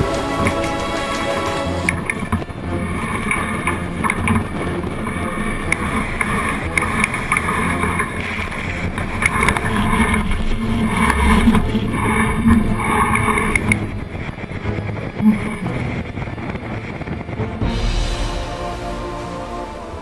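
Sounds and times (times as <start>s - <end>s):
water rushing along hull: 0.0s - 20.0s.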